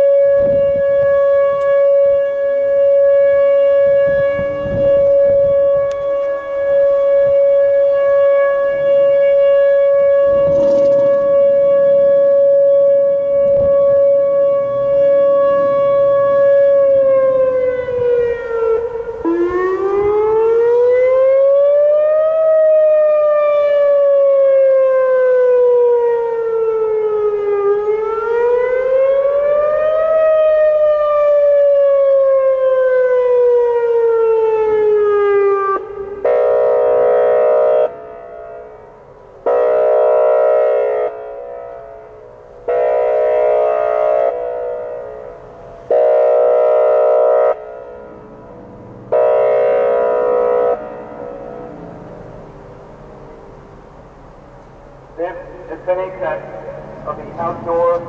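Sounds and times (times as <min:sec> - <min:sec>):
warning siren alert tone: 0:00.0 - 0:53.0
horn-like siren blasts: 0:00.0 - 0:53.6
siren wail rising and falling: 0:00.0 - 0:54.5, 0:55.2 - 0:58.0.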